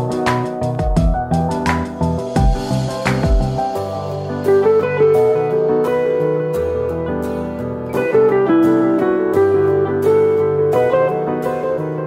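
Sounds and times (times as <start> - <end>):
background music with plucked notes: 0.0 - 12.0.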